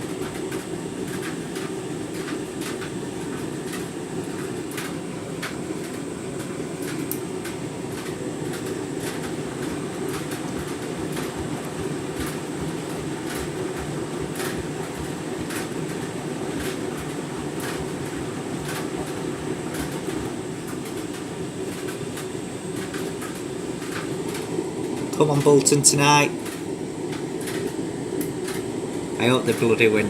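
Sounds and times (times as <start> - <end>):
washing machine drum churning: 0.0 - 30.0.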